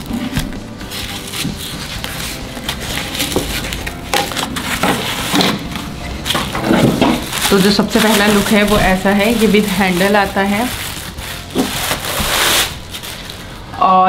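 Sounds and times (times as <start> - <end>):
packing material crackling and tearing: 0.0 - 13.8.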